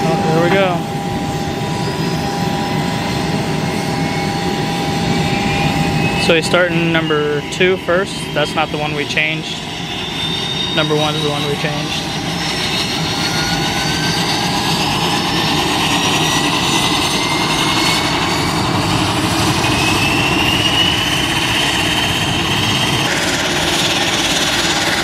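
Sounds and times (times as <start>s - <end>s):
high turbine whine: 0.0s - 25.0s
low engine drone: 0.0s - 25.0s.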